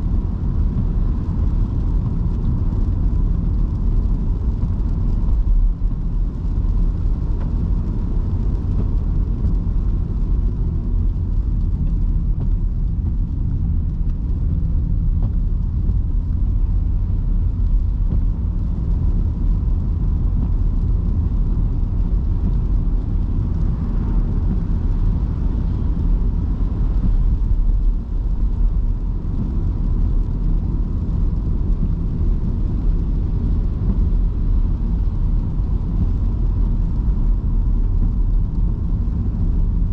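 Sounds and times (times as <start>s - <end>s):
tyre noise on wet road: 0.0s - 39.9s.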